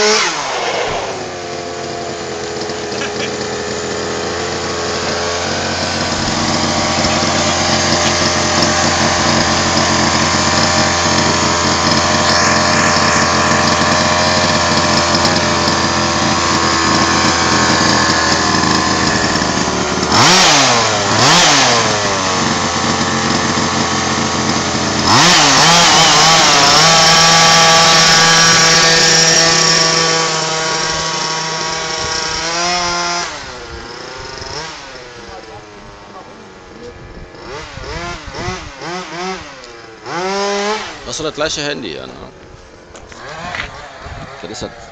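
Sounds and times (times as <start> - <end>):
small two-stroke engine idling: 0.0 - 44.9.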